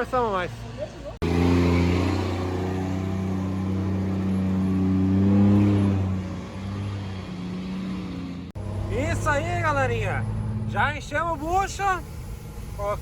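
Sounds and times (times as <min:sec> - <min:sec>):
truck diesel engine pulling: 0:00.0 - 0:13.0.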